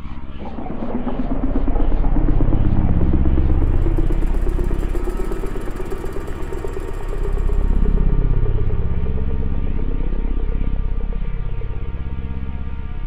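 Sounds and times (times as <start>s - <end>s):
deep rumbling drone: 0.0s - 13.0s.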